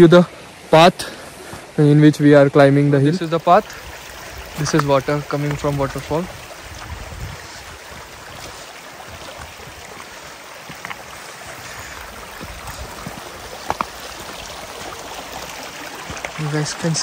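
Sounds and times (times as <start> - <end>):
water rushing down: 2.8 - 17.0.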